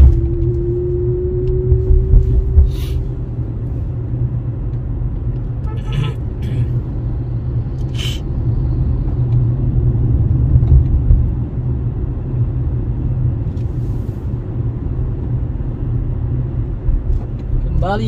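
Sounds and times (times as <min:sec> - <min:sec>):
vehicle driving on highway: 0:00.0 - 0:18.0.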